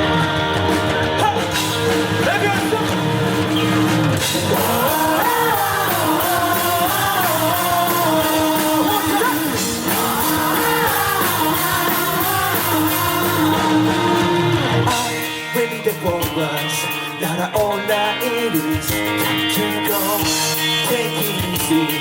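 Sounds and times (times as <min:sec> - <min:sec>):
live rock band playing: 0:00.0 - 0:22.0
person singing: 0:00.0 - 0:22.0.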